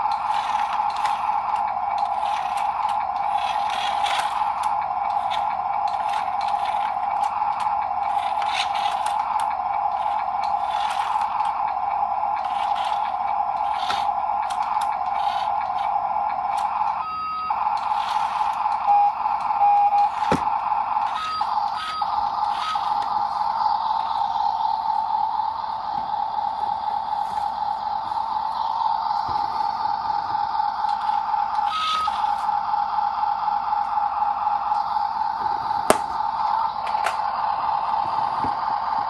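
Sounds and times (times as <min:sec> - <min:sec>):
toy electric motor whining: 0:00.0 - 0:39.0.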